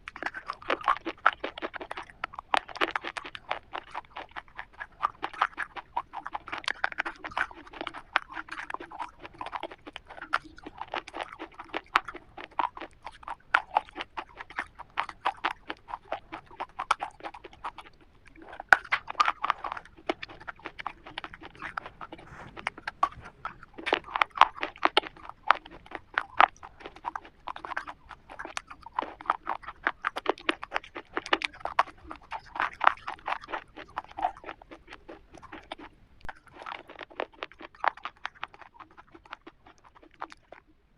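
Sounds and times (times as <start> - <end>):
crunching chocolate wafer: 0.0 - 40.7.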